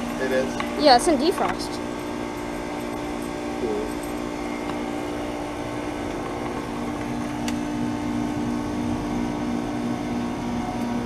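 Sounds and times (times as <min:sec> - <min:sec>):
heat pump humming: 0:00.0 - 0:11.0.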